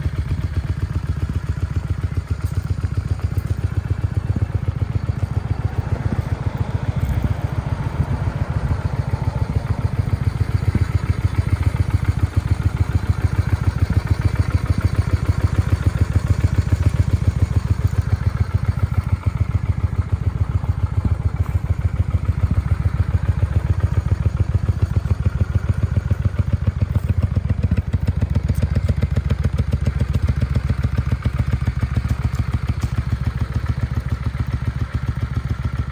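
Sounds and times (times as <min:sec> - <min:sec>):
motorcycle engine idling: 0:00.0 - 0:35.9.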